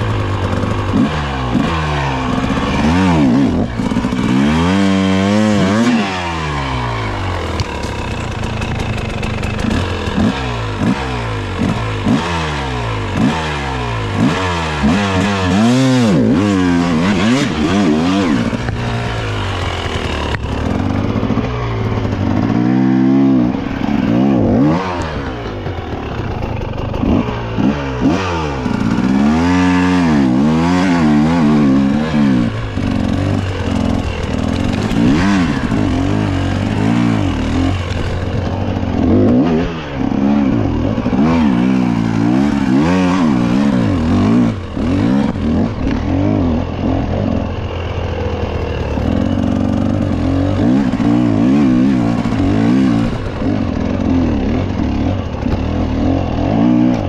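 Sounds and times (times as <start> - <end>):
bike drivetrain and frame clatter: 0.0 - 57.0.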